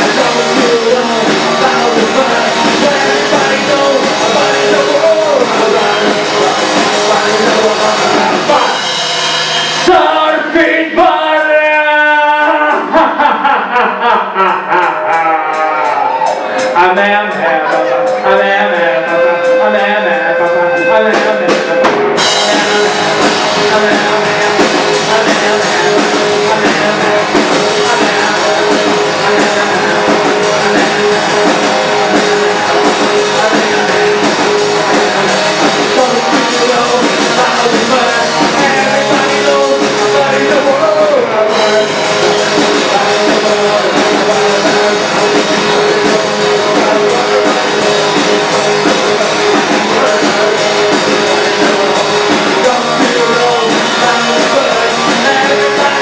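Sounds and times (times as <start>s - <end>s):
drum kit: 0.0s - 56.0s
electric guitar: 0.0s - 56.0s
person singing: 0.0s - 56.0s.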